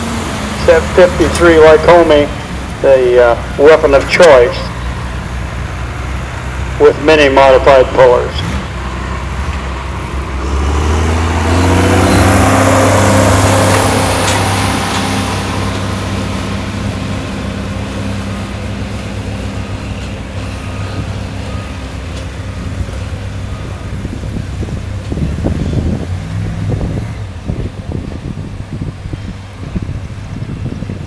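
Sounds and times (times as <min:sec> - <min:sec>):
tractor engines running: 0:00.0 - 0:31.0.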